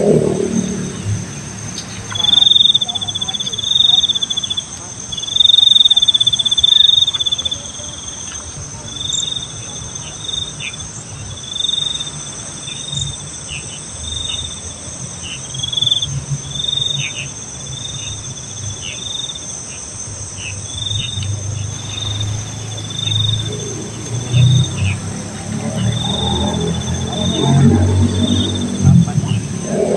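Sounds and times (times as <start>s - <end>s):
crickets chirping: 0.0s - 29.9s
high insect drone: 0.0s - 29.9s.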